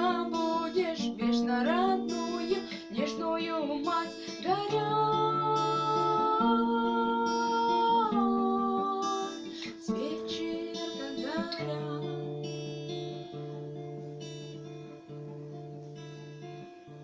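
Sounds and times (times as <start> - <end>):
woman singing: 0.0 - 13.7
acoustic guitar strumming: 0.0 - 17.0.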